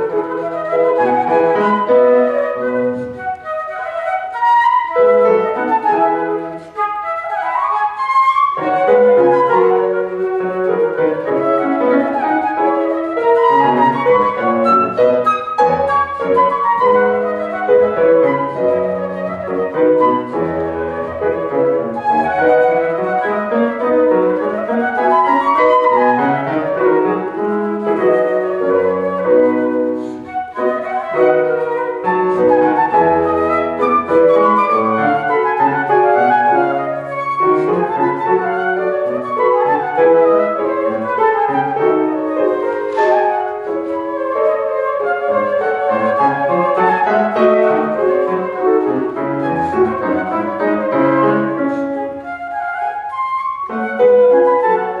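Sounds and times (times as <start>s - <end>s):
flute playing quick runs: 0.0s - 55.0s
piano accompaniment: 0.0s - 55.0s.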